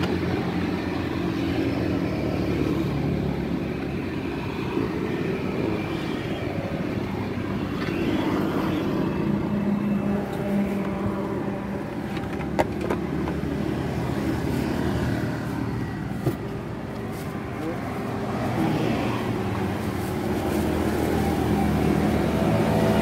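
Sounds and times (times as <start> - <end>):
road traffic engines: 0.0 - 23.0.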